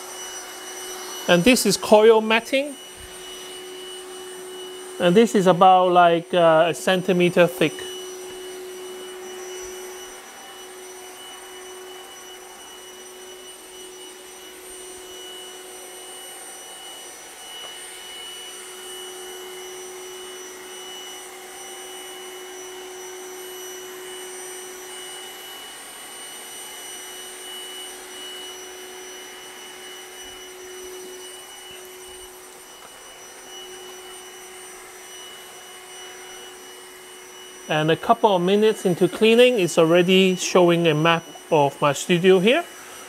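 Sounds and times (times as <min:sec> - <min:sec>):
robot vacuum cleaner humming: 0:00.0 - 0:43.0.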